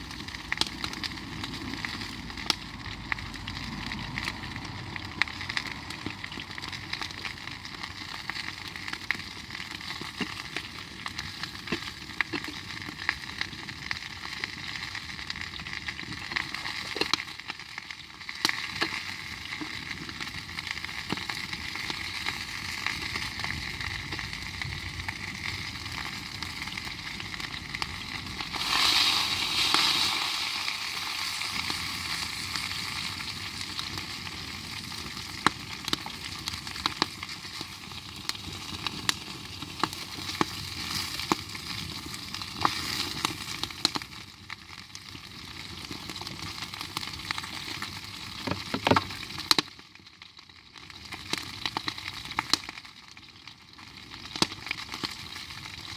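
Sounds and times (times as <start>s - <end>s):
campfire hissing: 0.0s - 55.9s
fire crackling and popping: 0.0s - 55.9s.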